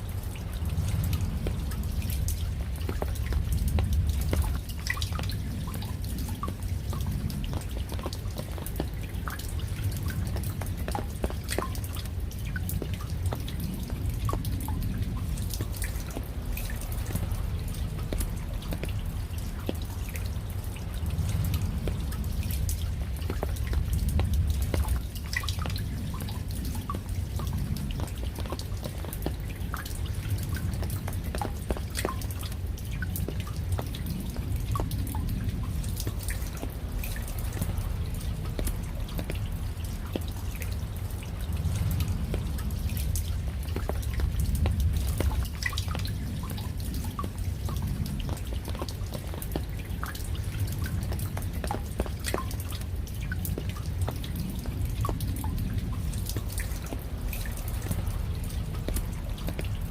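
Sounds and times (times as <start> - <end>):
raindrops dripping and pattering: 0.0 - 59.9.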